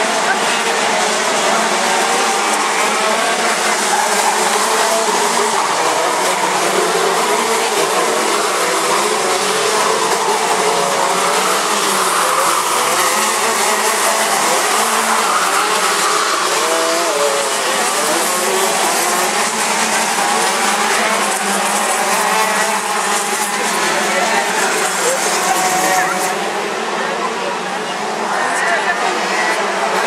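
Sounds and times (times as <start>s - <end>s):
kart engines racing at high revs: 0.0s - 30.0s.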